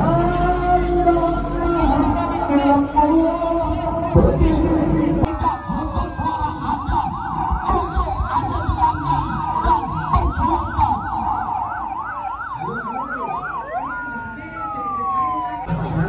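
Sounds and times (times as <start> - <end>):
ambulance sirens wailing: 0.0 - 16.0.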